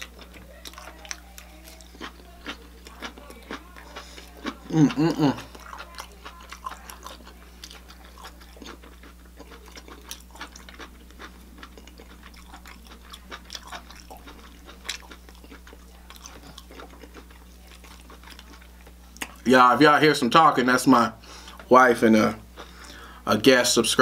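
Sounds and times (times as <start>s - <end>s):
person chewing: 0.0s - 19.8s, 22.3s - 23.2s.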